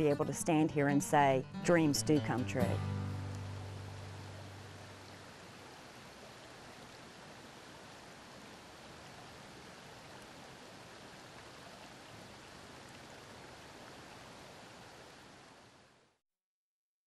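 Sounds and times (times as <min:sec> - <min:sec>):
flowing creek water: 0:01.7 - 0:16.2.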